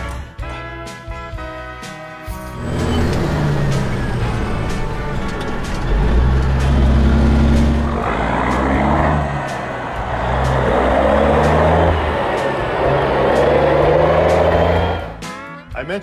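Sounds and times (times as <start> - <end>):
diesel truck engine accelerating: 2.3 - 15.4.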